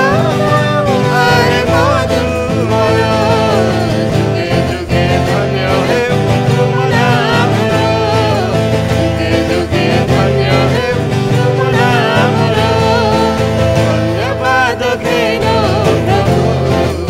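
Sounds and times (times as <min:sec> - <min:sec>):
acoustic guitar: 0:00.0 - 0:17.0
man singing: 0:00.0 - 0:17.0.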